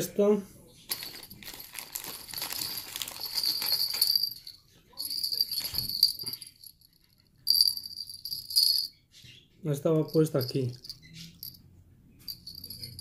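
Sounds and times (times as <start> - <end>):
small bells jingling: 0.9 - 9.0, 9.9 - 13.0.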